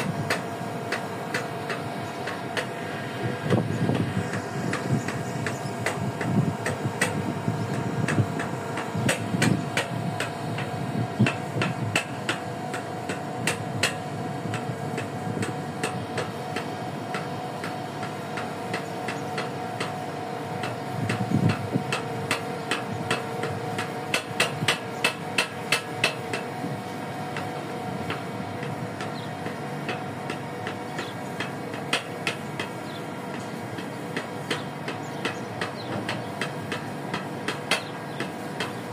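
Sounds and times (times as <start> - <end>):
machinery hum: 0.0 - 38.9.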